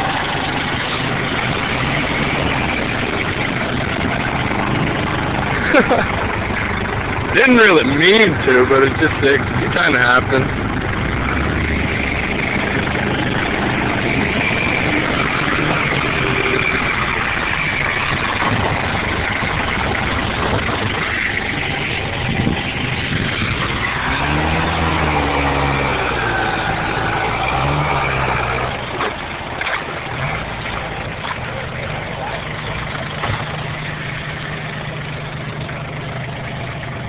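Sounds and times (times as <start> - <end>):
tractor engine running and revving: 0.0 - 37.0.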